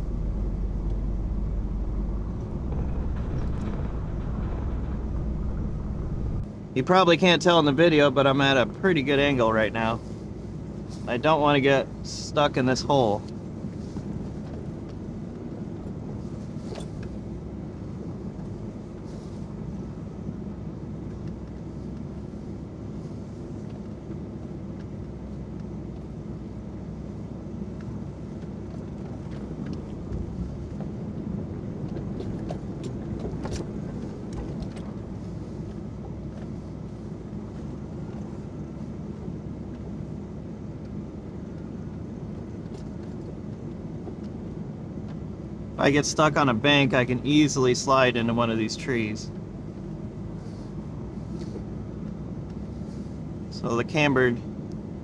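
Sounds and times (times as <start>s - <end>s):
car engine running at low speed: 0.0s - 55.0s.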